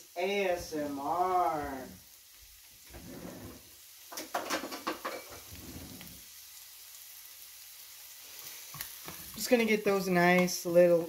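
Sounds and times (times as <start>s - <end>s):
onions sizzling in a frying pan: 0.0s - 11.0s
oil crackling and popping: 1.0s - 11.0s.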